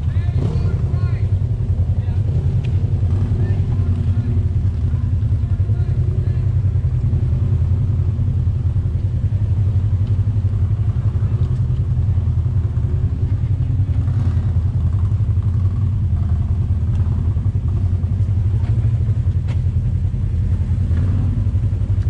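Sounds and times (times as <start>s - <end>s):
engine droning at low speed: 0.0s - 22.0s.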